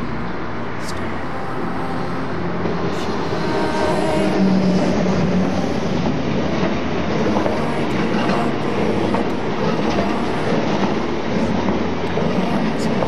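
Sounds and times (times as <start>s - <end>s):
train wheels rushing on rails: 0.7s - 13.0s.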